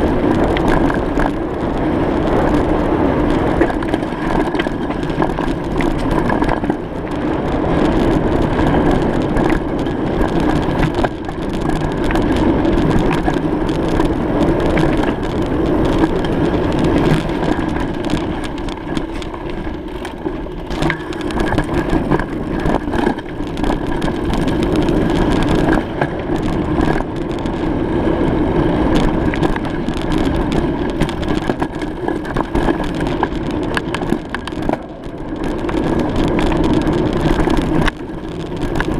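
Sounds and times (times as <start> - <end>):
bicycle rolling over rough surface: 0.0 - 38.9.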